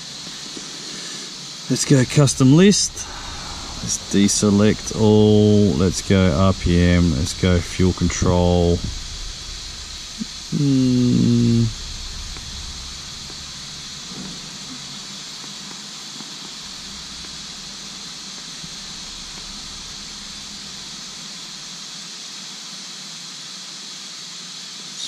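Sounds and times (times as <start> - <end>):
steady hiss: 0.0 - 25.0
low humming tone: 1.7 - 22.1.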